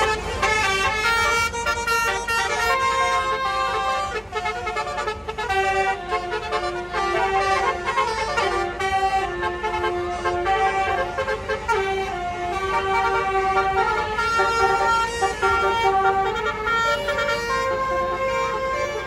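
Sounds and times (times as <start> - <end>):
multi-tone bus air horn tune: 0.0 - 19.0.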